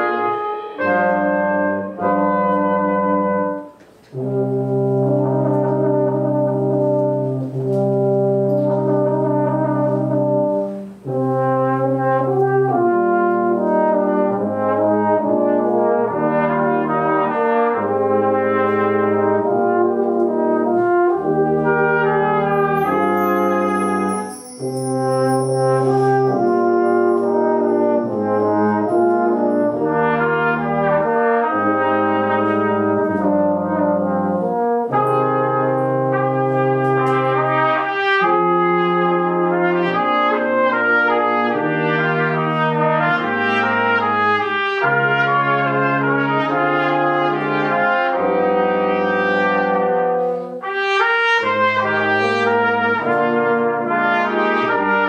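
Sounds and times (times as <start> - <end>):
brass quintet playing chords: 0.0 - 55.0.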